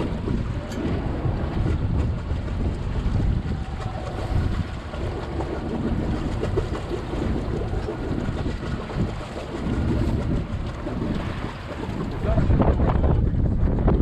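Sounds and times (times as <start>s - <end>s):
waves and water: 0.0s - 14.0s
wind buffeting microphone: 0.0s - 14.0s.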